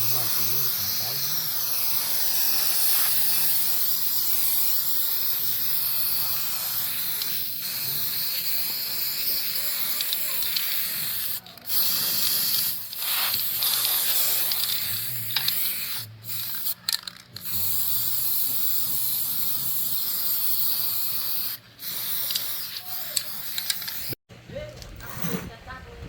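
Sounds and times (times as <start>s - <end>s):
high-pressure spray hissing: 0.0s - 16.8s, 17.4s - 24.2s.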